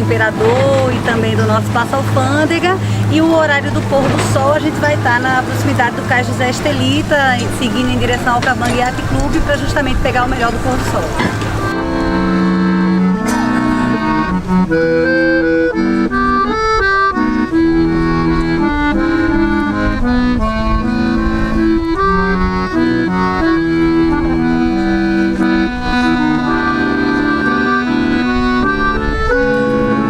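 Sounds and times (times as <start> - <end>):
accordion melody: 0.0 - 30.0.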